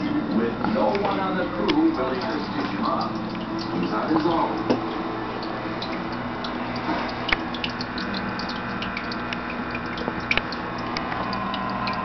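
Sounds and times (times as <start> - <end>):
low pump hum: 0.0 - 12.0
small ticks and drips: 0.0 - 12.0
water trickling: 0.0 - 12.0.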